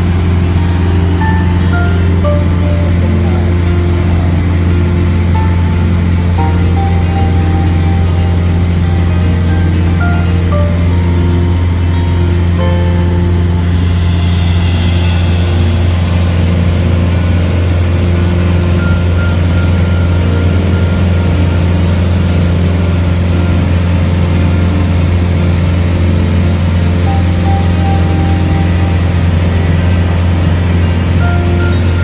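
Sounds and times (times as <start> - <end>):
light aircraft engine drone: 0.0 - 32.0.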